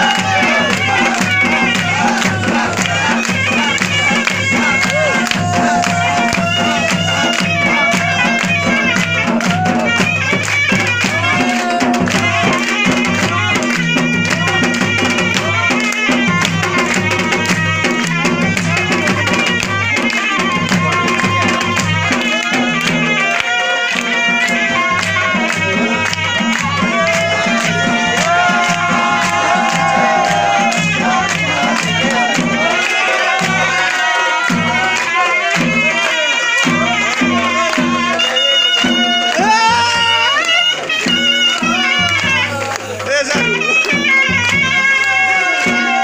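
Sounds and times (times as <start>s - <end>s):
crowd clapping along: 0.0s - 46.0s
drum beating fast rhythm: 0.0s - 46.0s.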